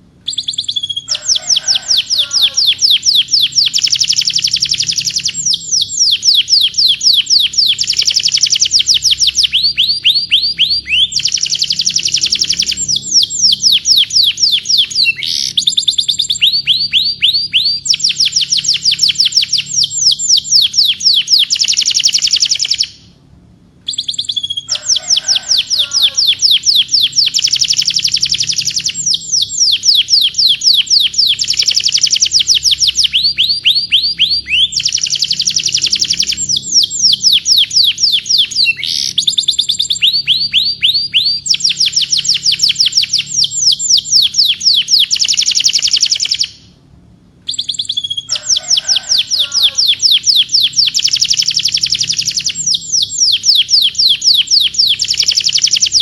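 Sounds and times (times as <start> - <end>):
canary singing trills: 0.0 - 23.2, 23.8 - 46.8, 47.4 - 56.0.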